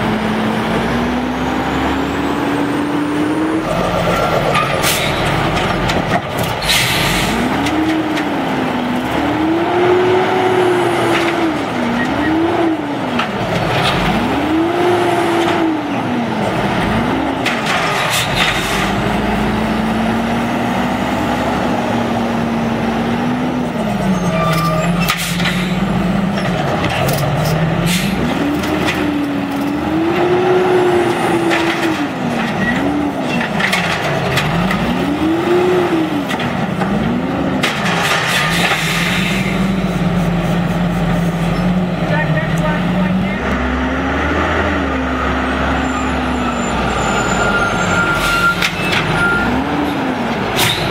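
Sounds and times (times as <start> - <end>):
garbage truck diesel engine revving: 0.0 - 50.9.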